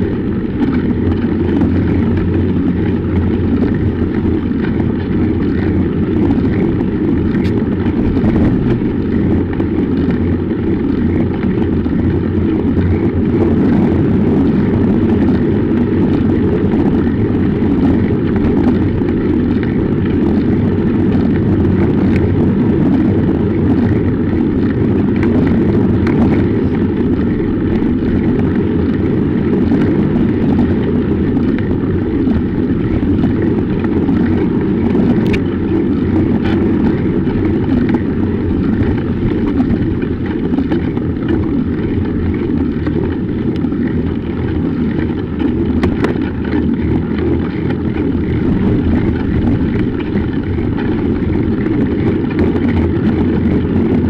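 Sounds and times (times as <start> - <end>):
faint clicks and rattles: 0.0 - 54.0
wind on microphone: 0.0 - 54.0.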